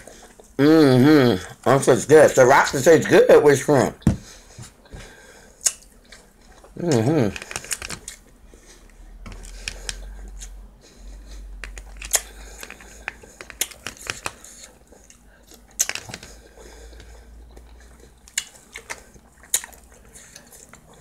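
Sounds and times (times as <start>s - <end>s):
chewing and mouth noises: 0.0s - 3.2s, 4.3s - 21.0s.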